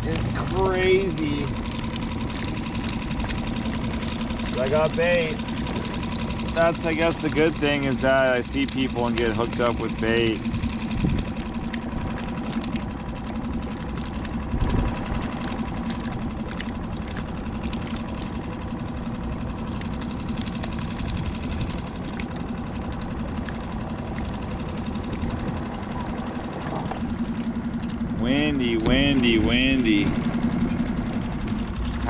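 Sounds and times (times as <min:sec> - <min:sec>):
small boat motor idling: 0:00.0 - 0:32.0.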